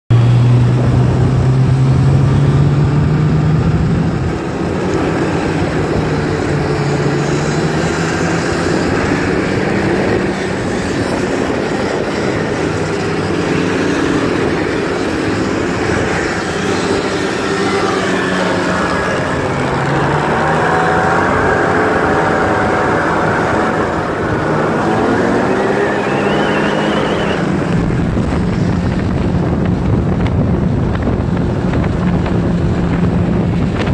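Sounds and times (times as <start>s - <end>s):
snowmobile engines revving: 0.1s - 33.9s.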